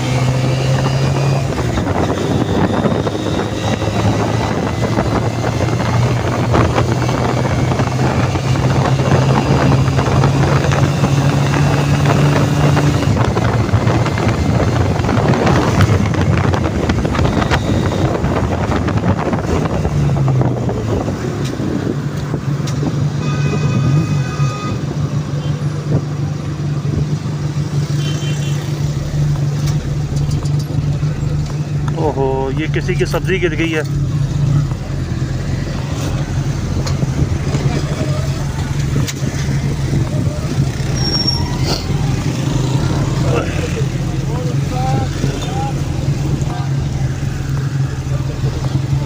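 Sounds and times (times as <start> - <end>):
wind rushing over microphone: 0.0 - 27.9, 28.6 - 49.0
motorcycle engine running: 0.0 - 49.0.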